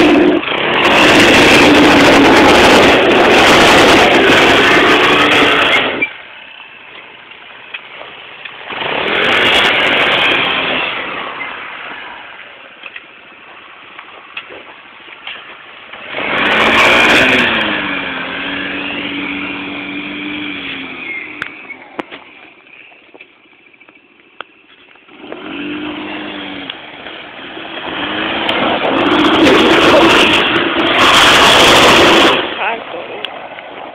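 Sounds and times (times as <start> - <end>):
atv engine revving: 0.0 - 33.9.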